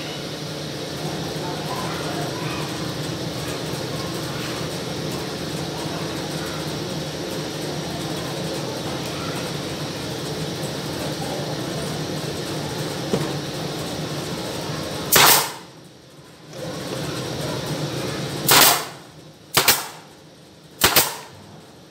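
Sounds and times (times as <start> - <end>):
motor running with low hum: 0.0 - 21.9.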